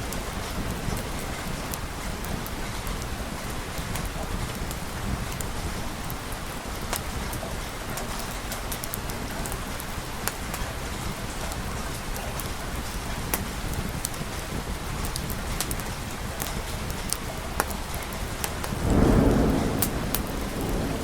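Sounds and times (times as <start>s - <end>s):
rain drops ticking: 0.0s - 21.0s
steady rain hissing: 0.0s - 21.0s.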